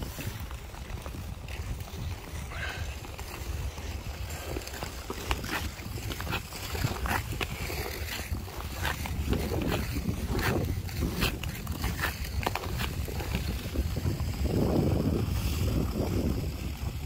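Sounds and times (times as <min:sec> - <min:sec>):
ice skate blades scraping: 0:00.0 - 0:17.0.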